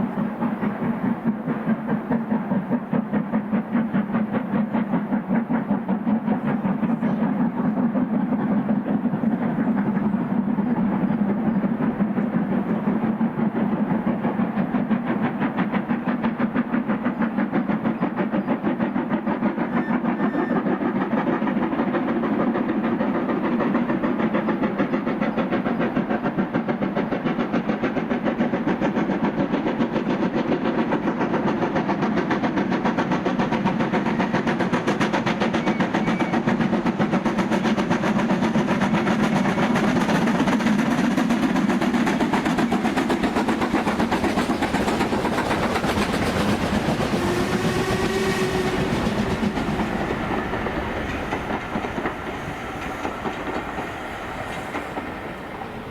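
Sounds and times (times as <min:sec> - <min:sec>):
steam train running: 0:00.0 - 0:55.9.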